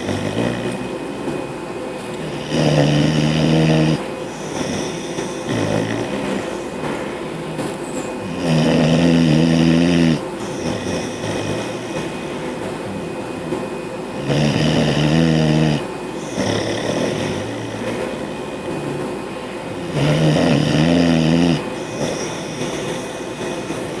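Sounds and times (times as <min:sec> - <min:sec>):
dog snoring: 0:00.0 - 0:01.1, 0:02.0 - 0:24.0
air conditioner humming: 0:00.0 - 0:24.0
dog breathing: 0:00.0 - 0:24.0.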